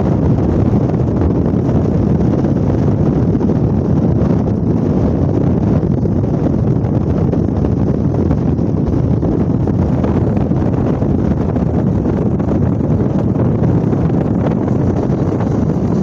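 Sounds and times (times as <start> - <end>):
wind buffeting the microphone: 0.0 - 16.0.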